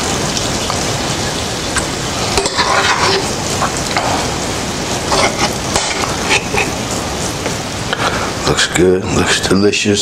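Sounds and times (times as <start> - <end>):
sauce sizzling in frying pan: 0.0 - 9.0.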